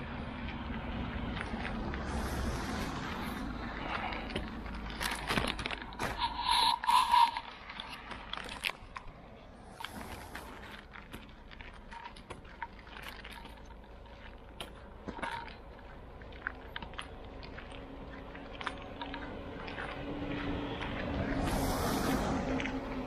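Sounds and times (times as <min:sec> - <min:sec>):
car approaching: 0:00.0 - 0:23.0
footsteps crunching on icy sidewalk: 0:00.0 - 0:23.0.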